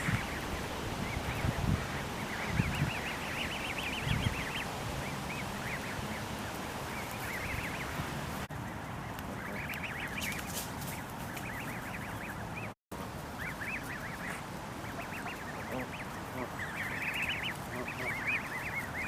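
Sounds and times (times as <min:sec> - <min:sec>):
goslings peeping: 0:00.0 - 0:19.0.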